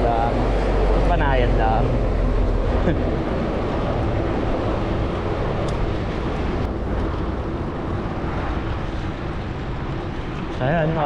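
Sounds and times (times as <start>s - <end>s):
traffic rumble: 0.0s - 11.0s
wind rushing on microphone: 0.0s - 11.0s.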